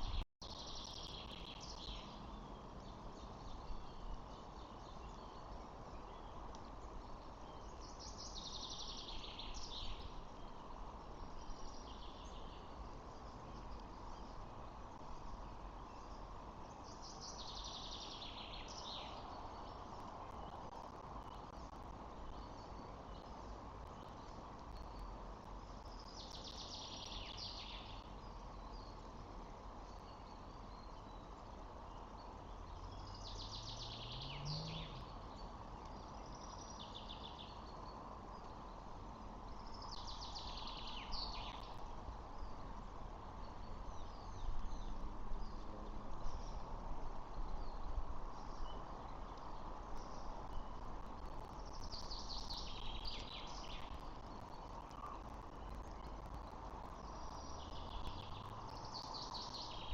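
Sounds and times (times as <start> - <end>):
outdoor background noise: 0.0 - 59.9.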